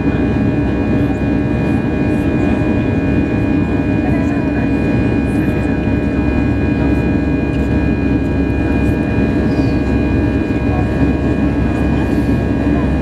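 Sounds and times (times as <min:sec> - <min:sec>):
jet engines in aircraft cabin: 0:00.0 - 0:13.0.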